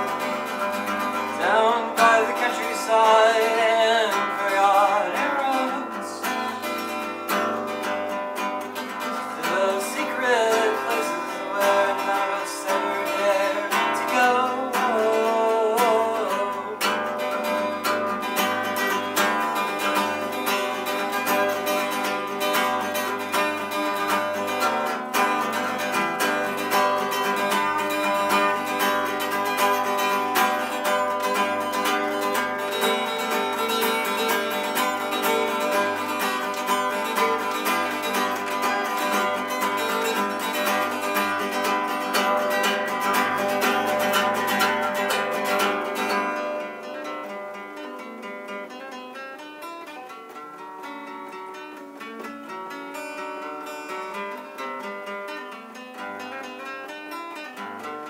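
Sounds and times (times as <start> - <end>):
acoustic guitar plucked notes: 0.0 - 58.0.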